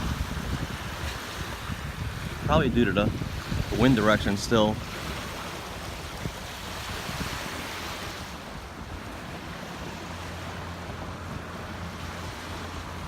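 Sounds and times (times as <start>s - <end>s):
small waves washing on beach: 0.0s - 13.0s
wind rushing over microphone: 0.0s - 13.0s.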